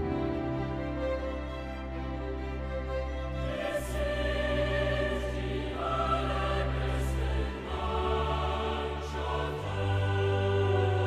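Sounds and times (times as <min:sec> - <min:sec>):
slow sustained chords music: 0:00.0 - 0:11.0.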